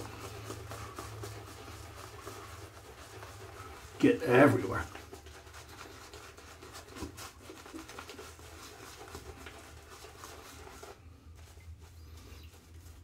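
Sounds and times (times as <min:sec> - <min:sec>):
shaving brush wet rubbing: 0:00.0 - 0:13.0.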